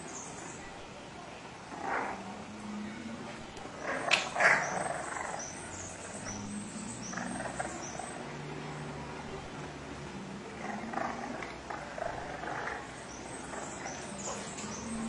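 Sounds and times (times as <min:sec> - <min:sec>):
puppies growling: 0:01.6 - 0:15.0.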